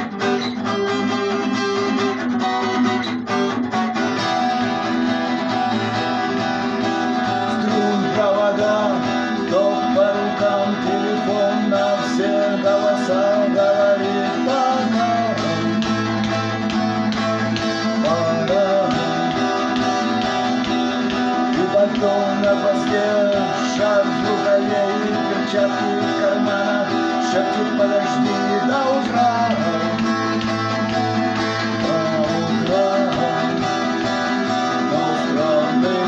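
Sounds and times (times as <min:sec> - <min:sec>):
strummed guitar: 0:00.0 - 0:36.0.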